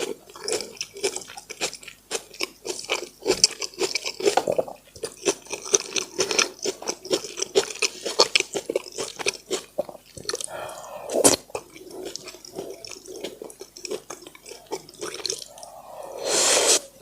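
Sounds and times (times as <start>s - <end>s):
chewing mouth clicks and smacks: 0.0s - 10.6s, 11.2s - 15.8s.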